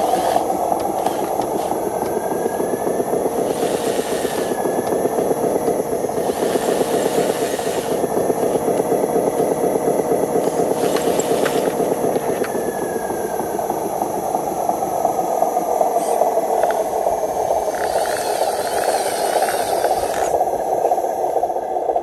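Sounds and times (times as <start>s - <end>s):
model truck motor running: 0.0s - 22.0s.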